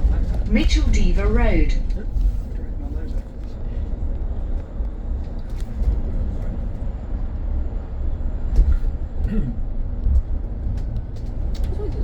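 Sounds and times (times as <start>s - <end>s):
bus cabin rumble: 0.0s - 12.0s.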